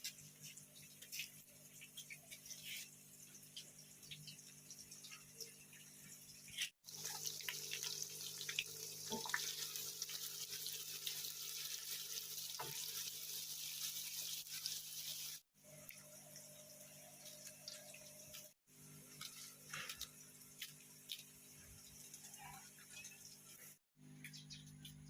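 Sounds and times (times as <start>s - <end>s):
water dripping: 0.0s - 25.0s.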